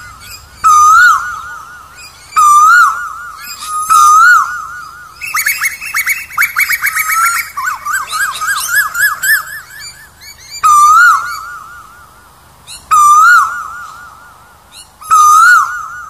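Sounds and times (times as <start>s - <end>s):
bird calling sharp notes: 0.0s - 14.1s.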